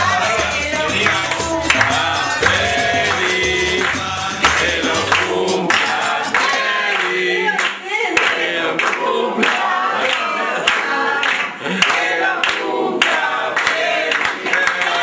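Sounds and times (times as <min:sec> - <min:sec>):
group of people singing: 0:00.0 - 0:15.0
people clapping in time: 0:00.0 - 0:15.0.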